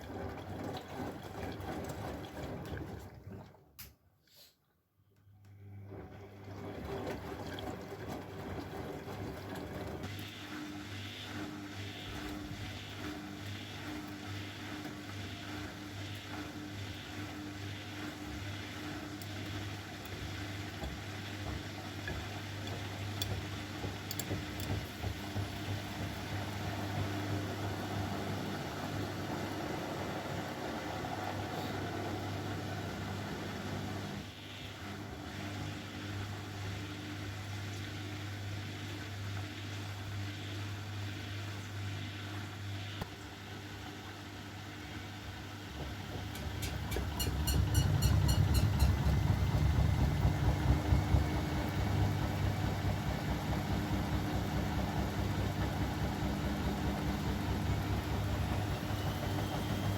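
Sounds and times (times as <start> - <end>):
washing machine running: 0.0 - 3.8, 5.6 - 59.9.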